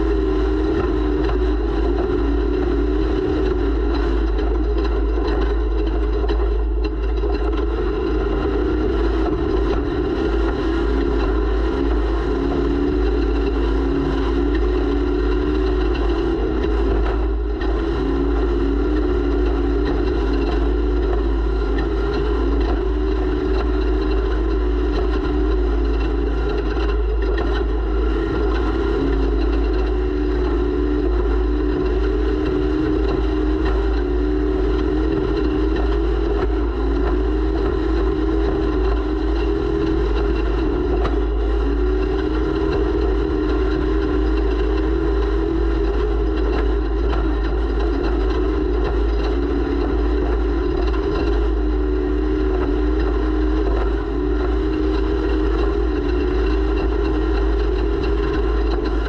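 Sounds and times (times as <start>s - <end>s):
engine running at high revs: 0.0s - 59.0s
low rumble of wind and terrain: 0.0s - 59.0s.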